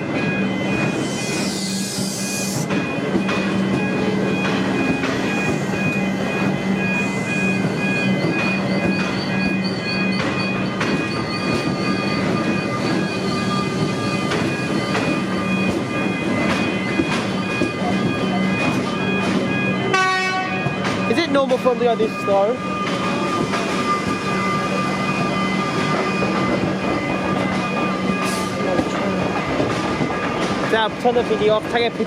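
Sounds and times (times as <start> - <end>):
train equipment whine: 0.0 - 32.0
train rumble: 0.0 - 32.0.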